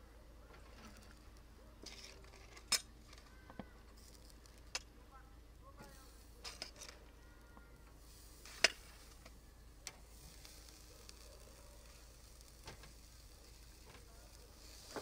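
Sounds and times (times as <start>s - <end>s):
faint sizzling: 0.0s - 15.0s.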